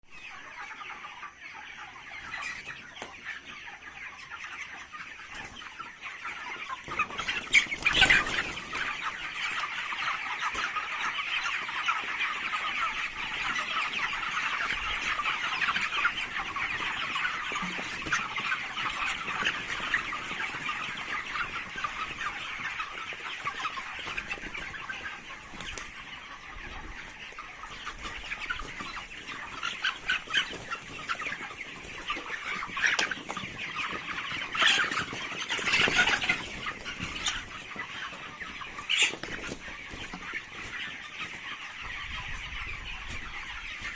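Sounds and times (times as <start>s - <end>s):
chickens clucking and cheeping: 0.0s - 43.9s.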